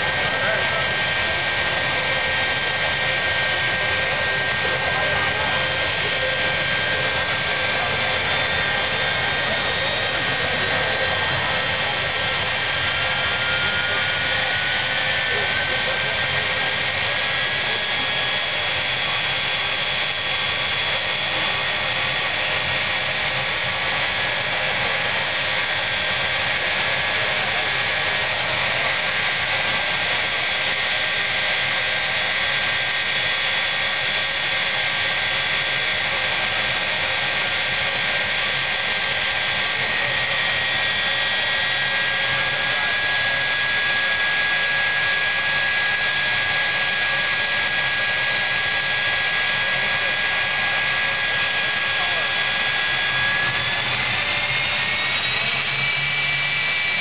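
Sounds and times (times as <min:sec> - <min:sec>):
jet engine roaring with whine: 0:00.0 - 0:57.0.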